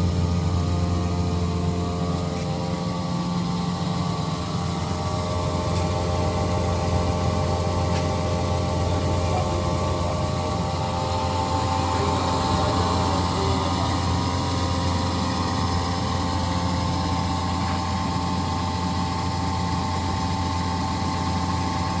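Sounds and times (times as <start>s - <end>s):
air compressor humming and whining: 0.0s - 22.0s.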